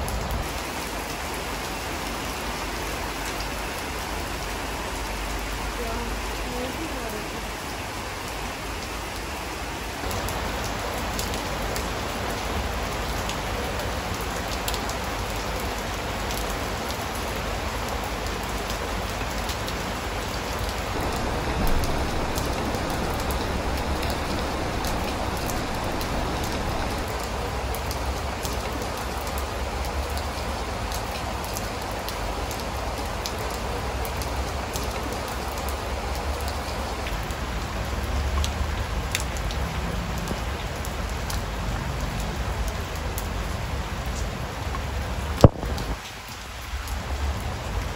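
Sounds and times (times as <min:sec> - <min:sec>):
rain on a wooden deck: 0:00.0 - 0:47.9.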